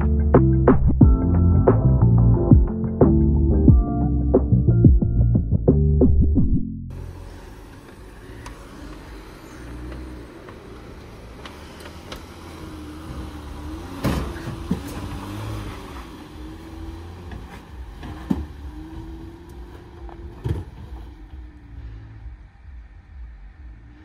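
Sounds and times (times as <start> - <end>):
truck engine running at low revs: 0.0 - 24.0.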